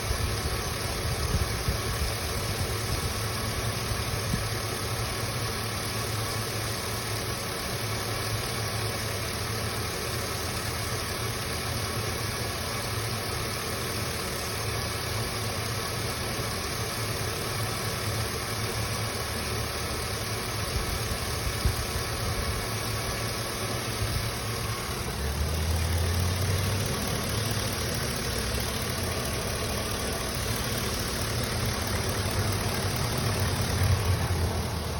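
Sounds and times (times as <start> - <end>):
pickup engine idling: 0.0 - 34.9.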